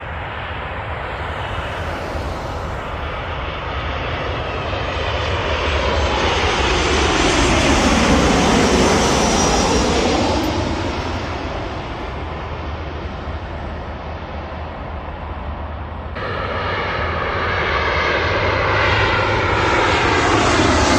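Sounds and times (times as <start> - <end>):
jet airliner passing overhead: 0.0 - 20.9.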